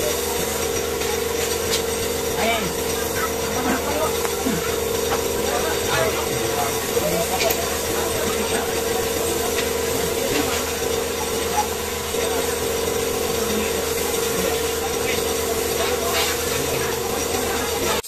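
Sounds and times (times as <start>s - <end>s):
paint spray gun hissing: 0.0s - 18.0s
steady hum: 0.0s - 18.0s.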